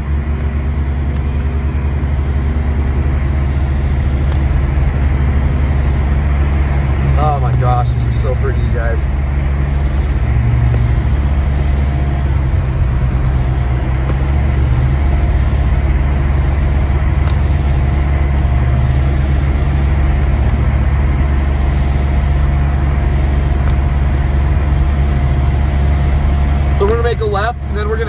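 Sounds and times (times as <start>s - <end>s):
car engine and tyres rumbling: 0.0s - 28.0s.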